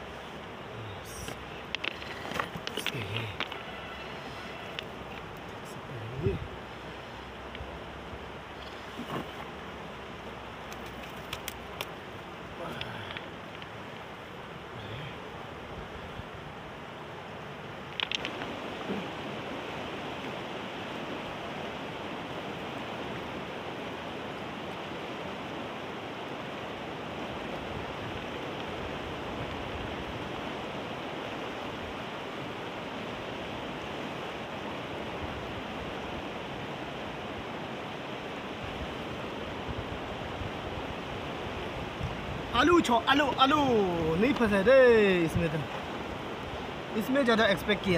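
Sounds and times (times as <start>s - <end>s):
river rapids rushing: 0.0s - 47.9s.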